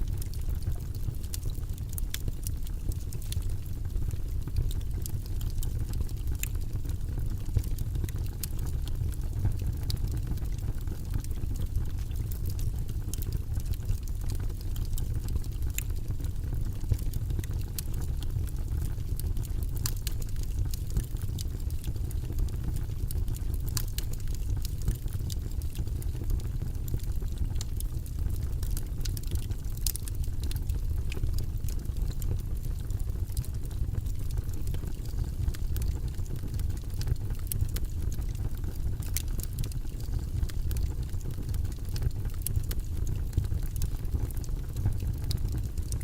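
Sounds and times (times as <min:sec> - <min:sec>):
rumbling white noise hiss: 0:00.0 - 0:46.0.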